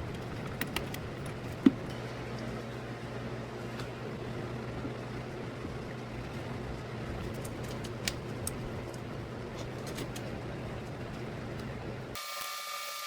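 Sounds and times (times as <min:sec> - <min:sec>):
low background hum: 0:00.0 - 0:12.4.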